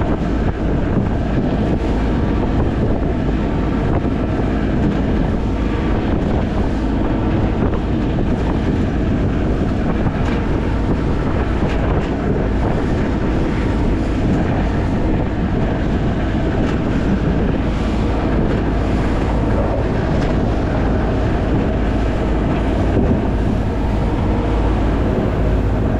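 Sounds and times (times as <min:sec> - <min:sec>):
boat motor running: 0:00.0 - 0:25.9
wind buffeting the microphone: 0:00.0 - 0:25.9.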